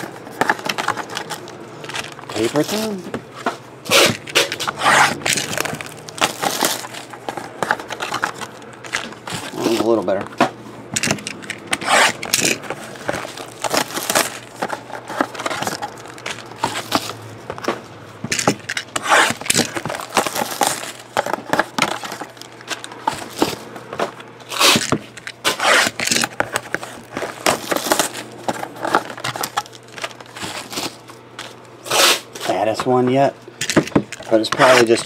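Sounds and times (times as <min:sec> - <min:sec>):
crinkling of wrapped packs: 0:00.0 - 0:10.4, 0:11.0 - 0:33.3, 0:34.0 - 0:35.0.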